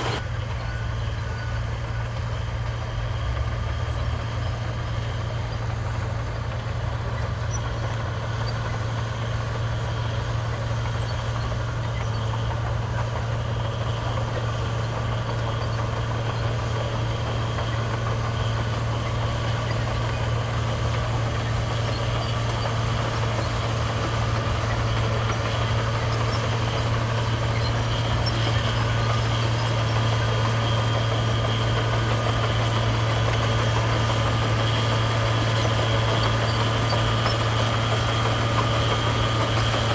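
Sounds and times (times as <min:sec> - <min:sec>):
heavy diesel engine humming: 0:00.0 - 0:39.9.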